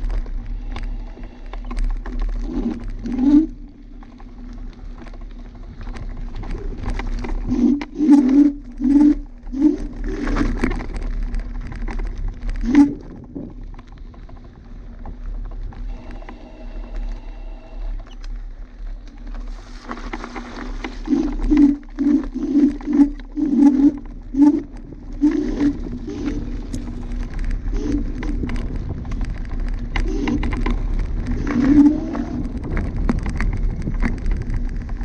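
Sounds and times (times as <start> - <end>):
wind on microphone: 5.0 - 18.1, 18.9 - 35.0.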